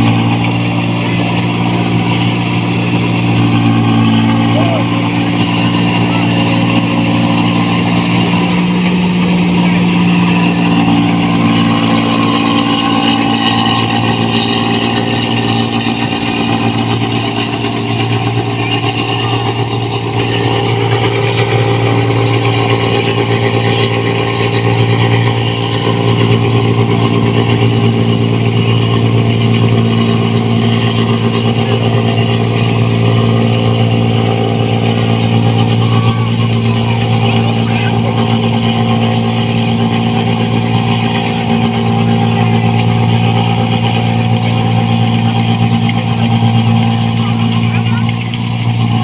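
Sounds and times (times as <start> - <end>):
diesel engine with loud exhaust: 0.0 - 49.0.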